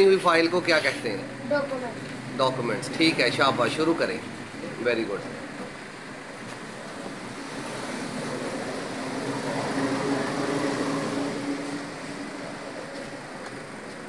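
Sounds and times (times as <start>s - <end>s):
road traffic noise: 0.0s - 14.0s
vehicle engine hum passing: 0.3s - 14.0s.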